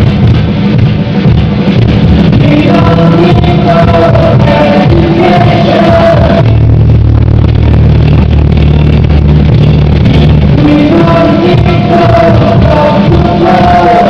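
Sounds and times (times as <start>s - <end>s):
paso doble dance music: 0.0s - 14.0s.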